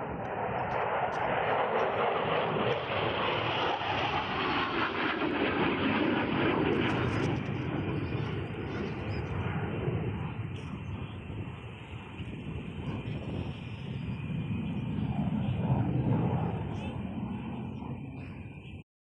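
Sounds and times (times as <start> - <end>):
aircraft flying past: 0.0 - 18.8.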